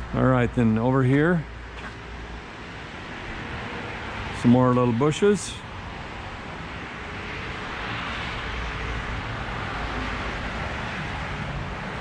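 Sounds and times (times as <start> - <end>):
passing vehicle rushing: 2.2 - 12.0.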